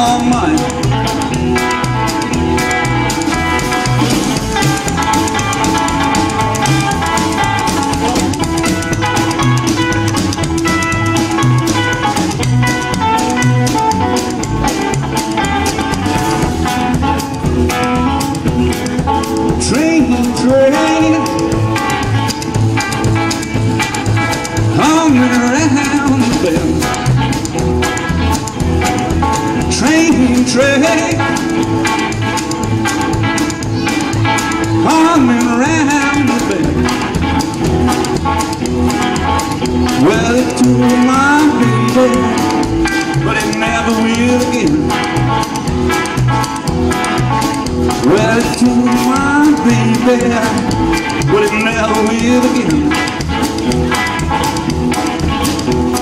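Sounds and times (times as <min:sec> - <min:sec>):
bass guitar: 0:00.0 - 0:56.0
drums: 0:00.0 - 0:56.0
electric guitar bending notes: 0:00.0 - 0:56.0.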